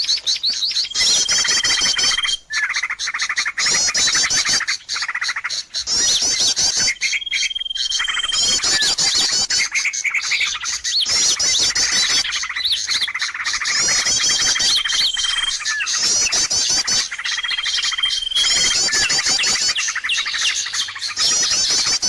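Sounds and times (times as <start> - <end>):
high bird whistle: 0.0 - 3.0, 5.8 - 22.0
rapid high arched bird notes: 0.0 - 22.0
small birds chirping: 0.0 - 22.0.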